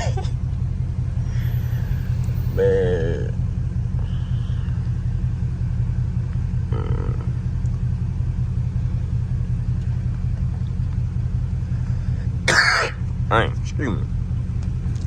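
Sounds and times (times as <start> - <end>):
car exhaust droning: 0.0 - 15.0.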